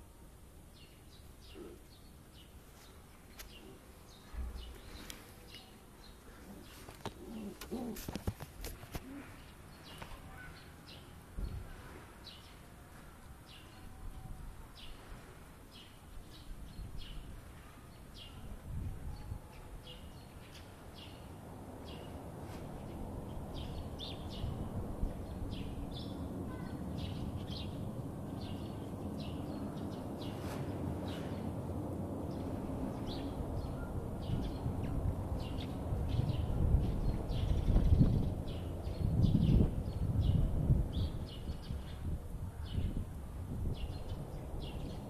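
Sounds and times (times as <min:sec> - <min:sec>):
small birds chirping: 0:00.7 - 0:31.6, 0:32.2 - 0:45.0.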